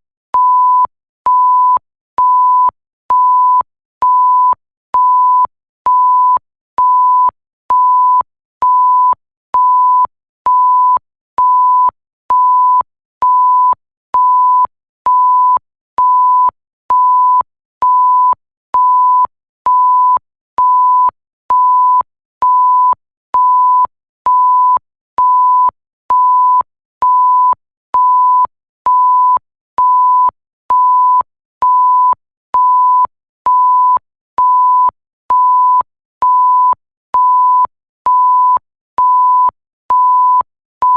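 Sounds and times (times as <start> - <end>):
censor bleep tone: 0.4 - 40.9.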